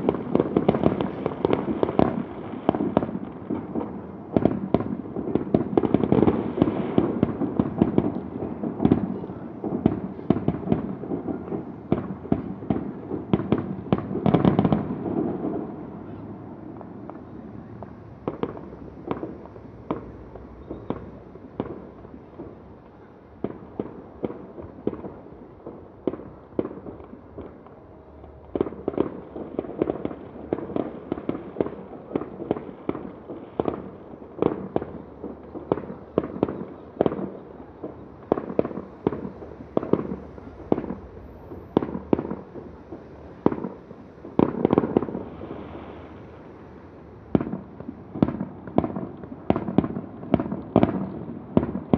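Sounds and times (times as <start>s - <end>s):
fireworks bursts and bangs: 0.0s - 51.9s.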